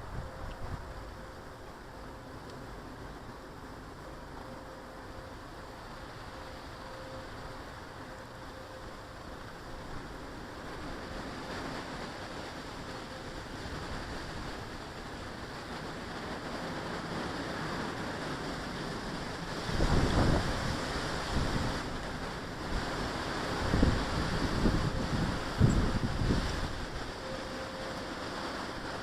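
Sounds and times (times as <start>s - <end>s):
wind gusts buffeting microphone: 0.0s - 29.0s.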